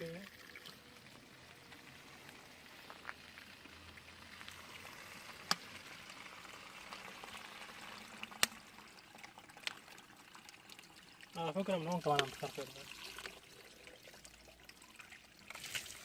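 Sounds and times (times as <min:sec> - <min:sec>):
water trickling and gurgling: 0:00.0 - 0:16.0.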